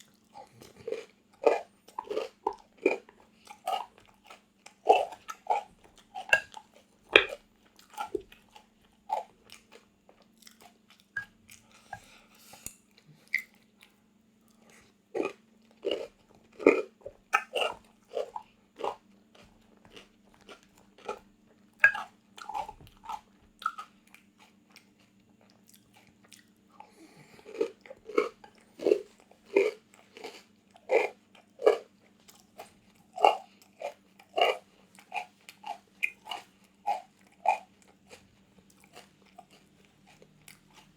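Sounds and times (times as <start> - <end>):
crunching and chewing crisp food: 0.0 - 40.9.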